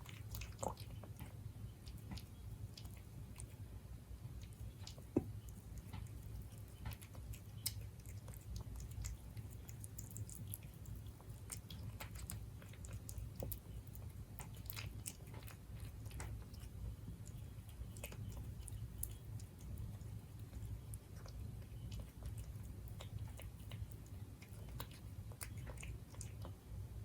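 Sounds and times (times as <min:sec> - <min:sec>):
cat crunching food: 0:00.0 - 0:26.8
low room hum: 0:00.0 - 0:27.0.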